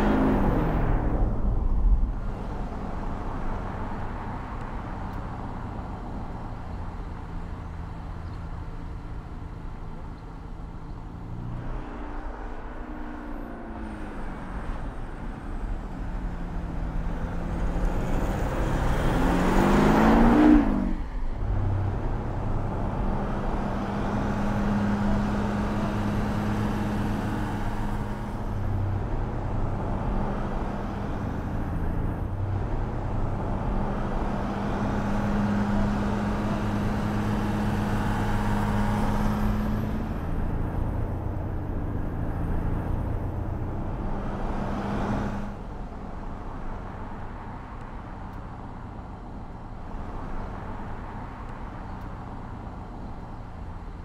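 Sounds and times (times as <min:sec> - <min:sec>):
tyre and road noise: 0:00.0 - 0:54.0.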